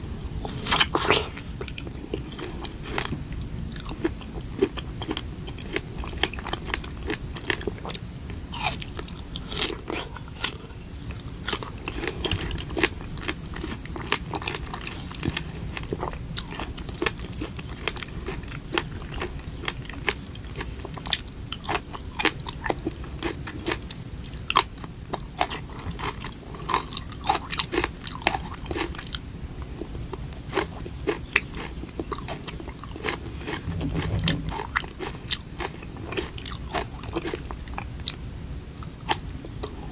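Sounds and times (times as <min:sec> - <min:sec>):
person chewing crunchy food: 0:00.4 - 0:38.2.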